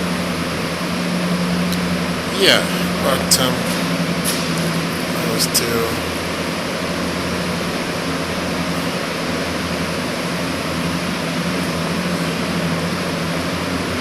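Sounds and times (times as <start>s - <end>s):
constant low hum: 0.0s - 14.0s
fans rushing air: 0.0s - 14.0s.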